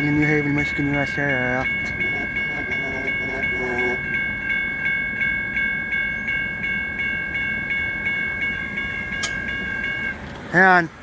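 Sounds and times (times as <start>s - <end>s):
crossing bell ringing: 0.0s - 11.0s
freight train rumbling: 0.0s - 11.0s.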